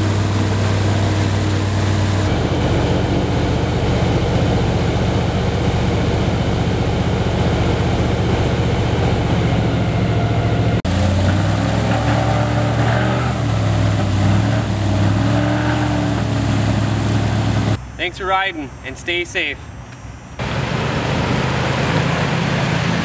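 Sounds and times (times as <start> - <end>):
airboat engine and propeller: 0.0 - 23.0.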